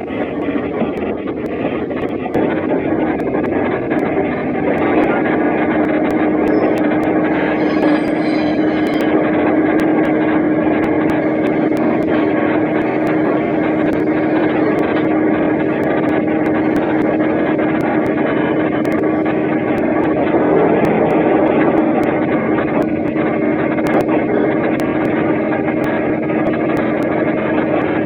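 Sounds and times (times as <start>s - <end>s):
train running with steady drone: 0.0s - 28.0s.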